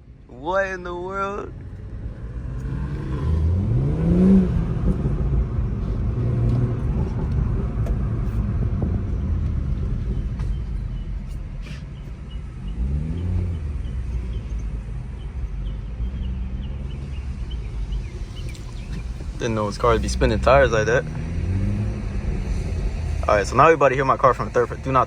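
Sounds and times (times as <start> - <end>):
car engine revving: 1.5 - 25.0.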